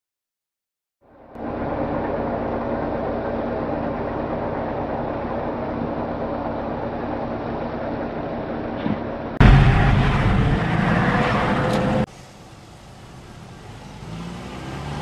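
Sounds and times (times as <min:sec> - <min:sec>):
vehicle engine running: 0:01.0 - 0:15.0.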